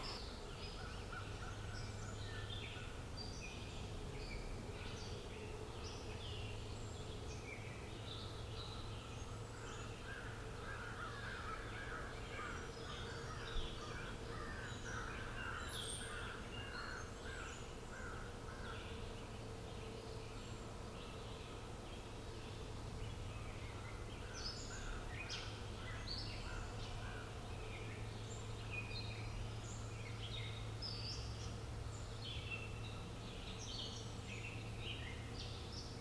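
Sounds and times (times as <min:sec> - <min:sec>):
birds chirping and singing: 0:00.0 - 0:36.0.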